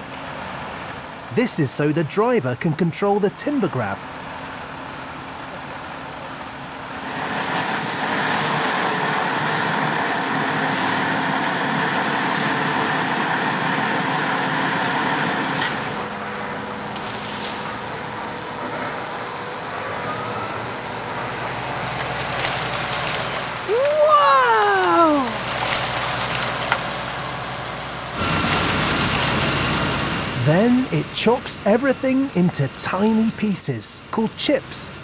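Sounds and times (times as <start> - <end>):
tractor and wood chipper droning: 0.0 - 35.0.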